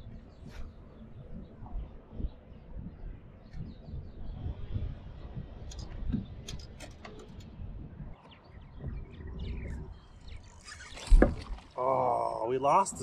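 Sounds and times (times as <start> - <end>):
steady low rumble: 0.0 - 10.5
birds chirping: 0.0 - 13.0.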